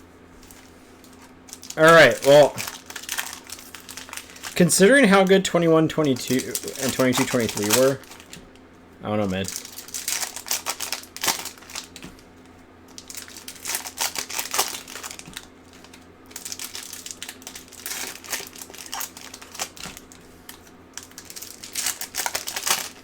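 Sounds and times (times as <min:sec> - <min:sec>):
plastic wrapping crinkling: 0:00.4 - 0:08.6, 0:09.4 - 0:23.0.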